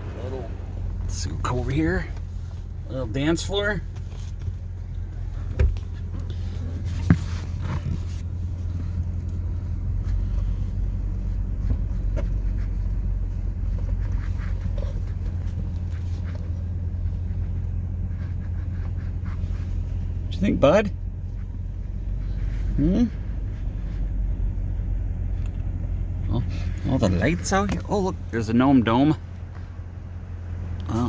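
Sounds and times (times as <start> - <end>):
car cabin rumble: 0.0 - 31.0.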